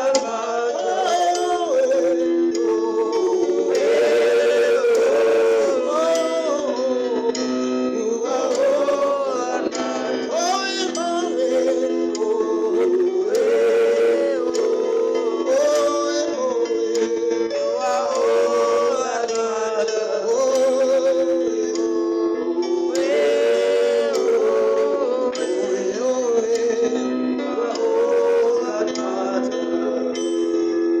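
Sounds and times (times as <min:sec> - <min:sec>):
person singing worship song: 0:00.0 - 0:30.6
musical accompaniment: 0:00.0 - 0:31.0.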